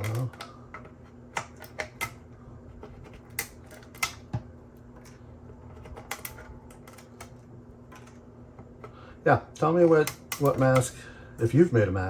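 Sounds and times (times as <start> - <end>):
plastic snapping and crackling: 0.0 - 8.8, 9.8 - 10.9.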